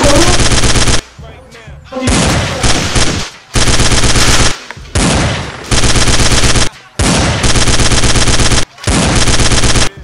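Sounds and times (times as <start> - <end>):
automatic gunfire bursts: 0.1 - 1.0, 2.6 - 10.0.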